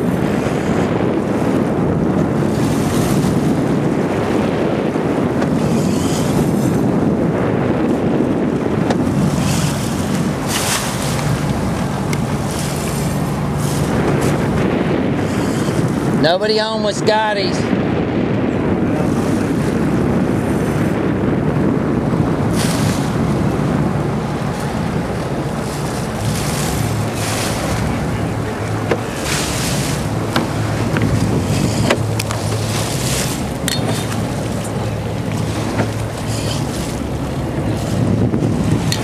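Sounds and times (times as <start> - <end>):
boat engine humming: 0.0 - 39.0
water washing against hull: 0.0 - 39.0
wind on microphone: 0.0 - 39.0.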